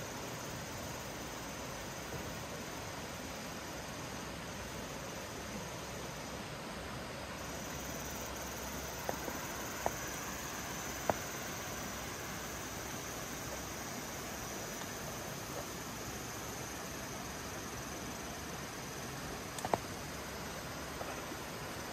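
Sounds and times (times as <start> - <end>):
high insect trill: 0.0 - 21.9
river rushing: 0.0 - 21.9.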